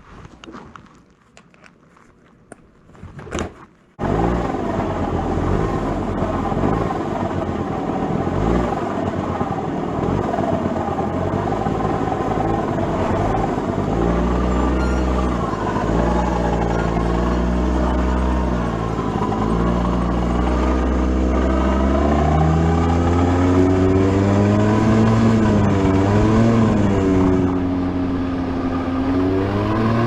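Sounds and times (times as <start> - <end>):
scooter engine running: 4.0 - 30.0.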